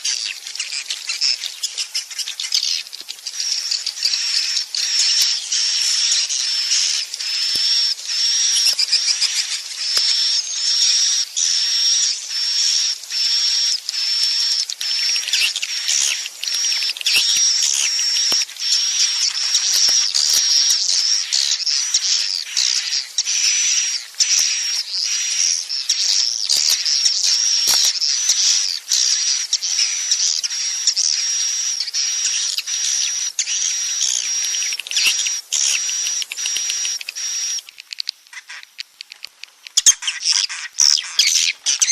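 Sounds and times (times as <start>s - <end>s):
swiftlets twittering: 3.4s - 39.0s.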